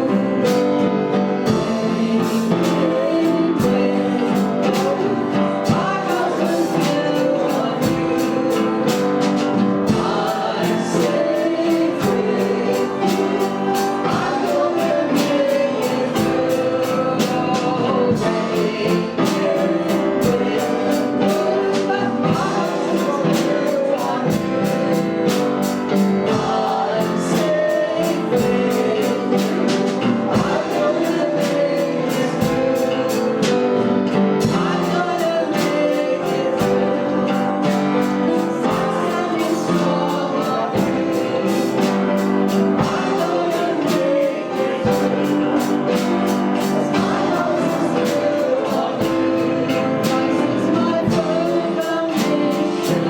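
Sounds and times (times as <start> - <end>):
worship singing with band: 0.0 - 53.0.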